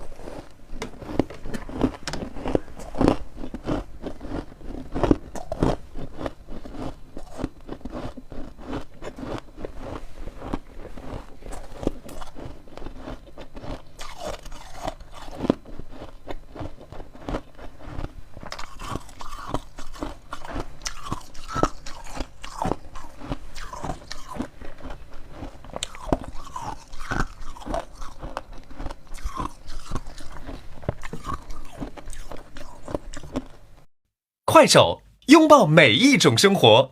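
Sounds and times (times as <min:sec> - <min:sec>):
frost being chewed crunching: 0:00.0 - 0:33.8.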